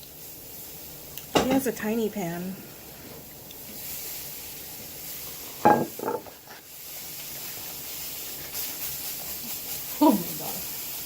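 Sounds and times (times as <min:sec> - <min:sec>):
burger patties sizzling in a pan: 0:00.0 - 0:11.0.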